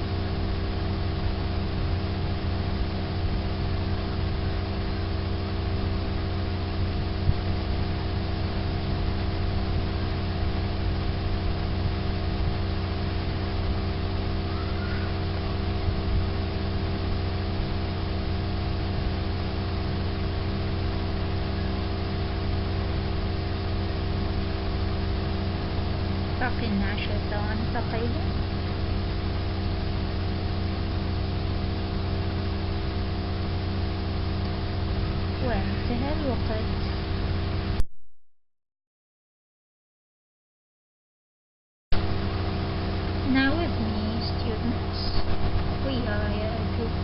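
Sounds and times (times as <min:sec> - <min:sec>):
low drone with higher tones: 0:00.0 - 0:37.8, 0:42.0 - 0:47.0.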